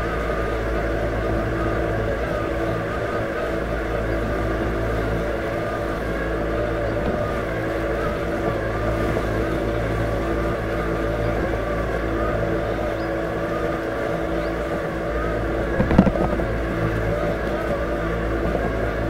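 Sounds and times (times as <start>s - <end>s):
electric motors humming: 0.0s - 19.0s
wavering high whine: 0.0s - 19.0s.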